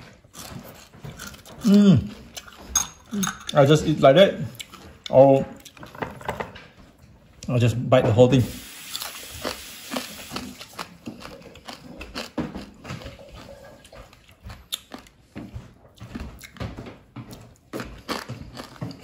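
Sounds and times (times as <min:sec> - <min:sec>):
person chewing crunchy food: 0:00.0 - 0:06.2, 0:08.8 - 0:19.0.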